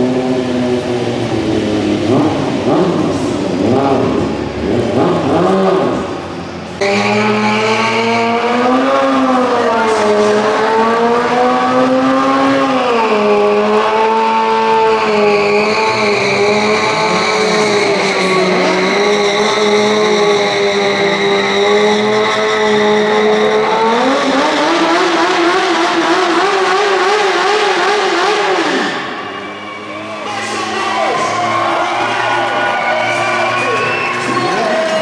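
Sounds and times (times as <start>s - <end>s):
motorcycle engine at high revs: 0.0s - 29.2s.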